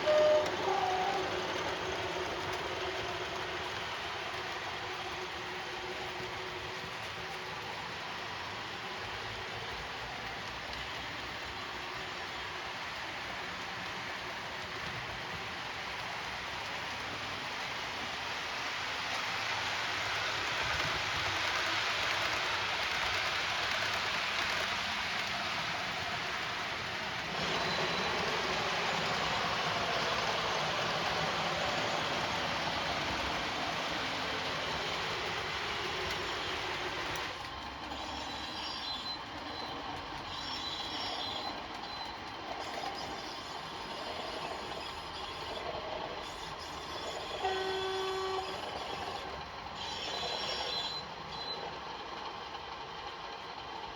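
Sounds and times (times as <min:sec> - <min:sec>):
wheels rumbling on track: 0:00.0 - 0:53.9.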